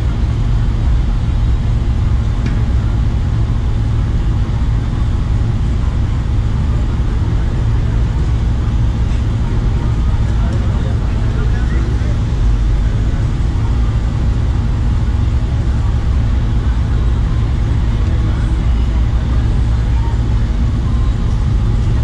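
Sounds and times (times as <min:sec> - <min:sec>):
low rumble of outdoor noise: 0:00.0 - 0:22.0.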